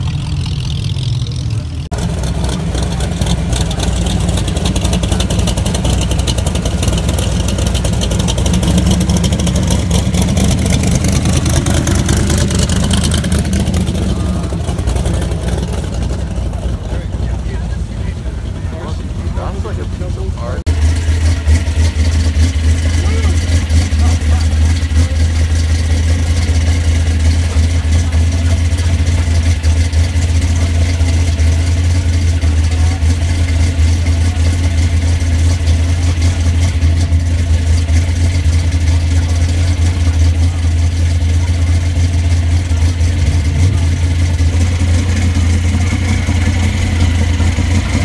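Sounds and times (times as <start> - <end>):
engine idling with deep rumble: 0.0 - 48.0.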